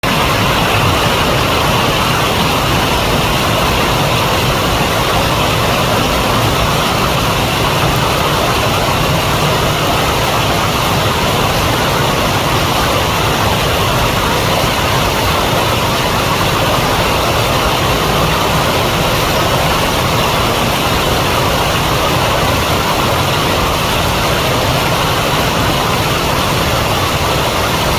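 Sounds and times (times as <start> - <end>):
river water rushing: 0.0 - 27.9.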